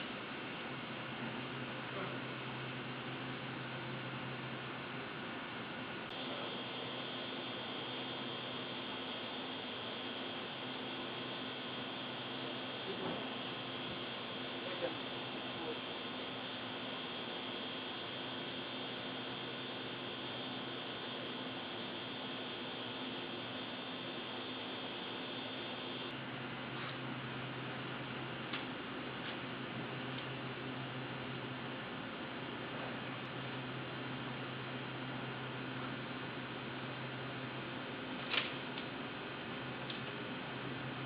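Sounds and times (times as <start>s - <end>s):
electrical hum with tones: 0.0s - 41.0s.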